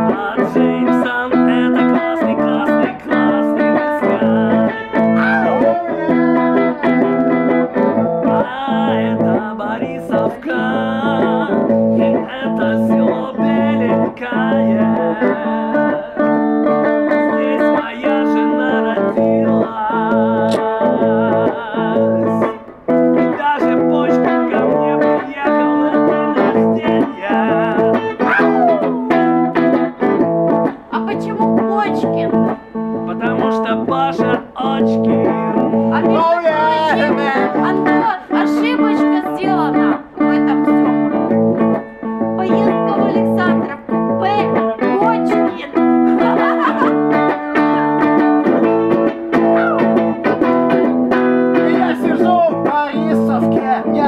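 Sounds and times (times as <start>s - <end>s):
blues guitar: 0.0s - 54.0s.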